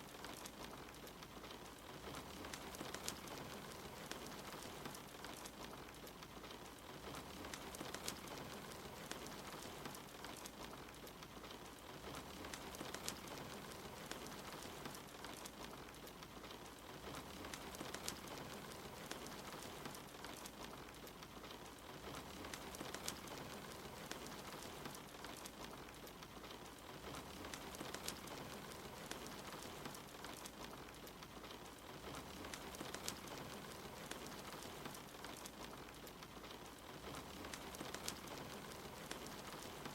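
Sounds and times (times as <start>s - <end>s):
rain hiss: 0.0s - 39.9s
wood fire crackling: 0.0s - 39.9s.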